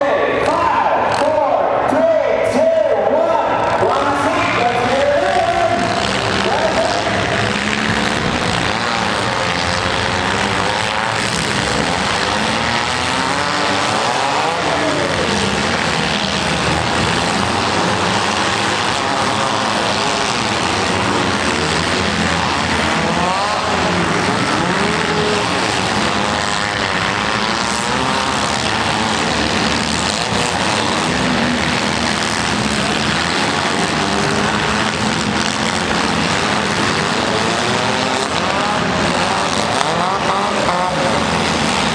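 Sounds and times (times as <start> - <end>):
car engines revving: 0.0 - 41.9.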